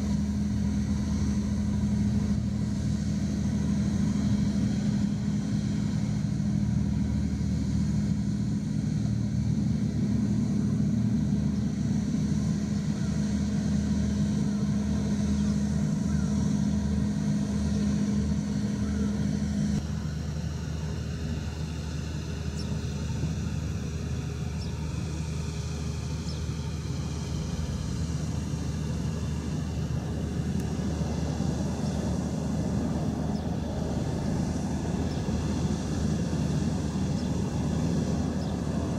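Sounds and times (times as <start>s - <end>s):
ship machinery hum: 0.0s - 38.9s.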